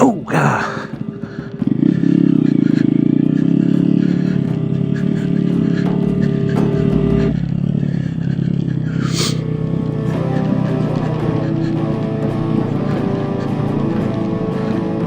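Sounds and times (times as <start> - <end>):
motorcycle engine riding: 0.1 - 15.0.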